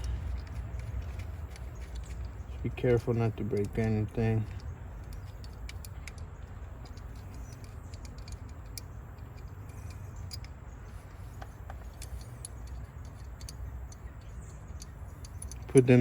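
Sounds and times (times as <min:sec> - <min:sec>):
low steady rumble: 0:00.0 - 0:16.0
small metal parts clicking: 0:00.0 - 0:16.0.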